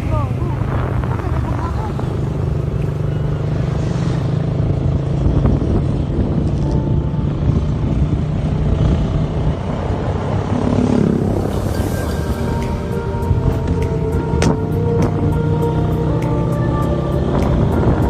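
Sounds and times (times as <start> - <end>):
wind rushing: 0.0 - 2.7, 3.8 - 18.0
motorcycle engine running: 0.0 - 18.0.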